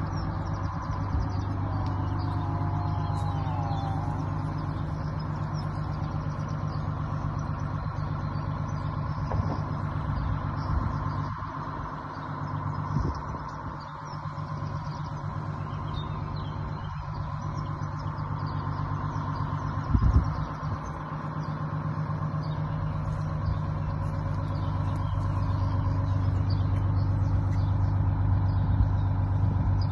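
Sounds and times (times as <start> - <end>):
diesel bus engine idling: 0.0 - 29.9.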